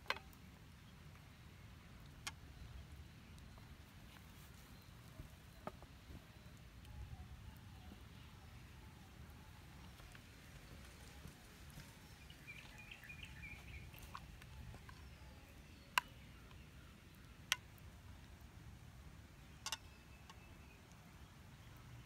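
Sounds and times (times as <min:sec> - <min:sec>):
faint bird chirps: 0:00.7 - 0:18.3, 0:19.2 - 0:22.0.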